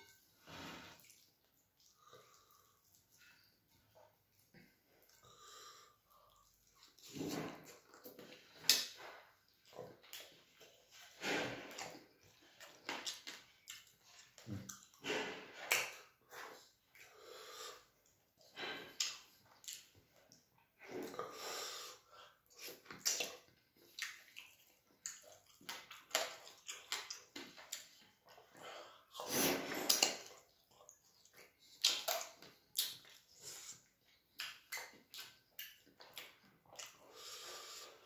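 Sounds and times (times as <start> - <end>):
wet chewing and mouth noise: 0.0 - 38.0.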